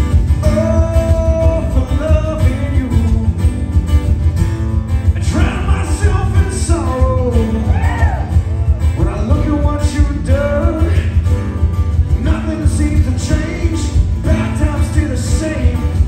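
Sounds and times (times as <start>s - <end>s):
strummed acoustic guitars: 0.0s - 16.0s
man singing: 0.1s - 3.7s, 5.1s - 11.5s, 12.1s - 16.0s.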